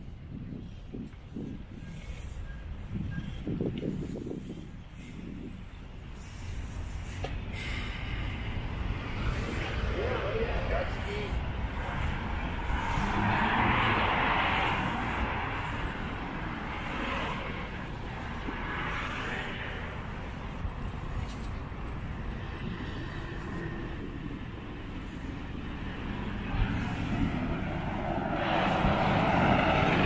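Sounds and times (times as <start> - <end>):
traffic noise: 0.0 - 30.0
wind rumble on microphone: 0.0 - 30.0.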